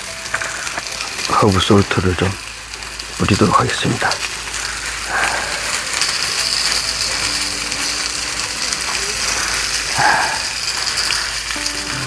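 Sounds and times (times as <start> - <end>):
meat sizzling on grill pan: 0.0 - 12.0.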